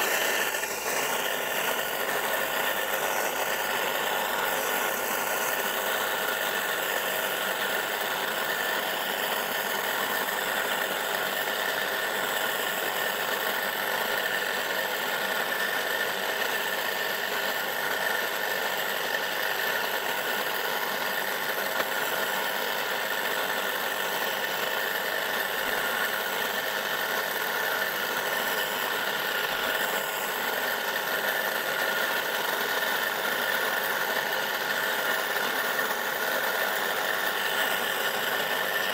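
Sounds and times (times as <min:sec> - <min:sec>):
electric motor whining under load: 0:00.0 - 0:38.9.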